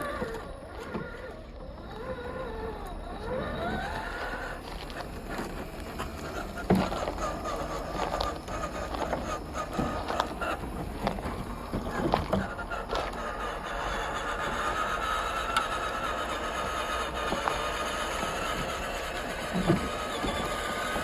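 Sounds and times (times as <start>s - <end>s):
rc car electric motor whining: 0.0s - 21.0s
tyres and chassis knocking and scraping: 0.0s - 21.0s.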